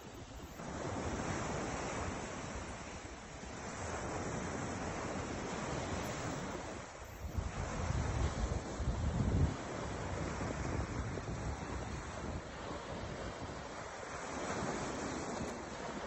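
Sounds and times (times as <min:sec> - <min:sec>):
ocean surf washing ashore: 0:00.0 - 0:16.0.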